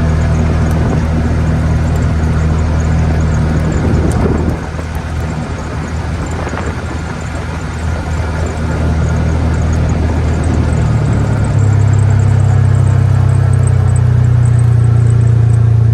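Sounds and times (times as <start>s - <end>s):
engine humming: 0.0s - 15.9s.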